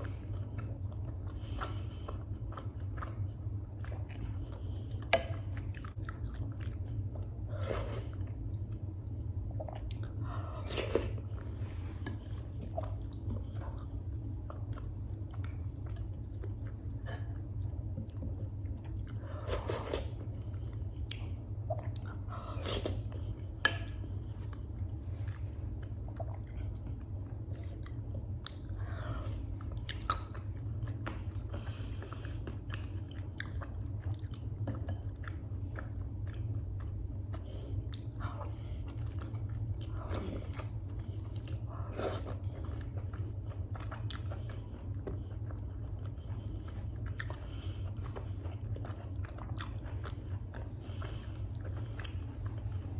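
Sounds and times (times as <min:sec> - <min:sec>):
chewing and biting food: 0:00.0 - 0:52.9
steady low hum: 0:00.0 - 0:52.9.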